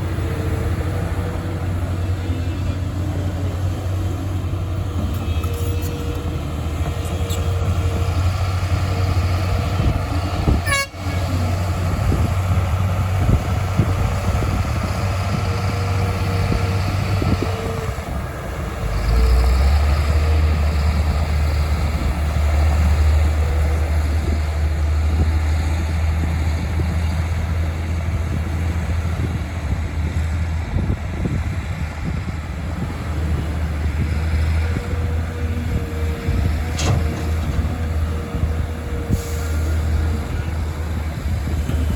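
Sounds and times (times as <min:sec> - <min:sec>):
heavy diesel engines droning: 0:00.0 - 0:41.9.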